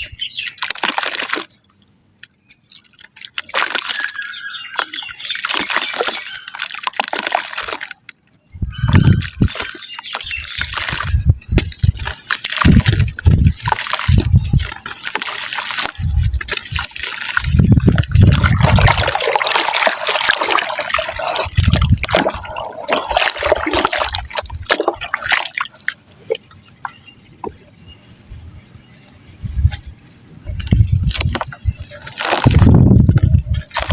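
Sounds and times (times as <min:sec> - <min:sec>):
wet mud crumbling: 0:00.3 - 0:26.6, 0:30.6 - 0:33.9
water splashing and plopping: 0:00.4 - 0:01.9, 0:02.6 - 0:26.7, 0:31.1 - 0:33.9.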